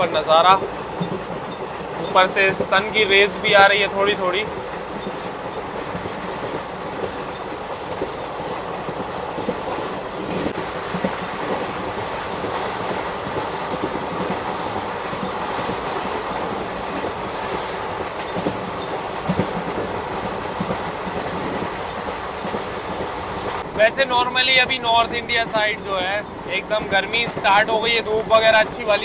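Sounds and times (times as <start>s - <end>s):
train running noise: 0.0s - 29.0s.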